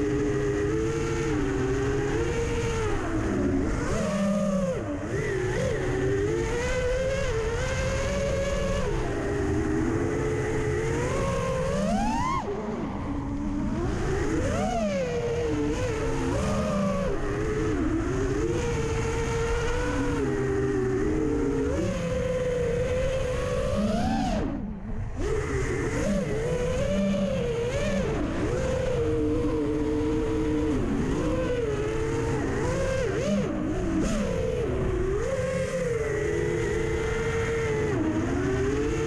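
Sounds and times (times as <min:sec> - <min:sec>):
quadcopter motors whining: 0:00.0 - 0:39.0.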